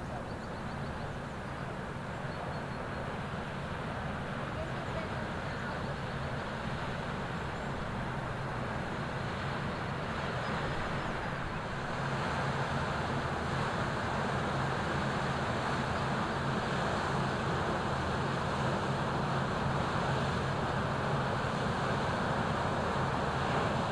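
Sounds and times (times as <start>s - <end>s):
ship diesel engine drone: 0.0s - 23.9s
broad rushing noise: 1.1s - 23.9s.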